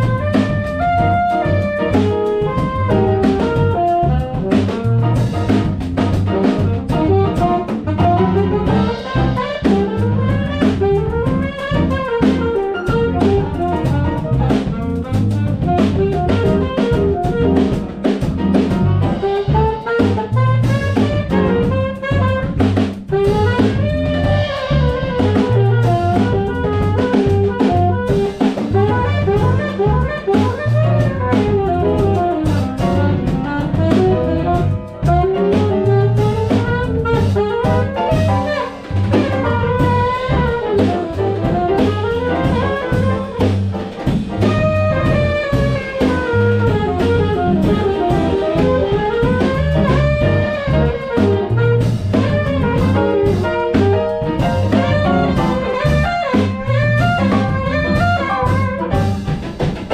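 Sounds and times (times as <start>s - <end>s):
drum kit: 0.0s - 59.9s
piano chords: 0.0s - 59.9s
saxophone melody: 0.0s - 59.9s.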